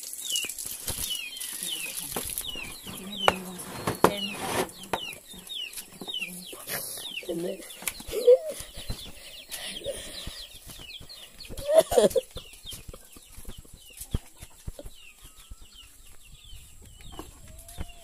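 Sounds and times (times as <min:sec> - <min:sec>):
chickens clucking: 0:00.9 - 0:18.0.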